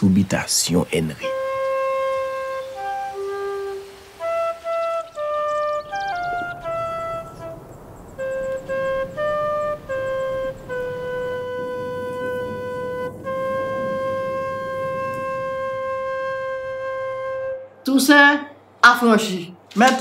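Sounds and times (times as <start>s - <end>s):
solo flute melody: 1.2s - 17.8s.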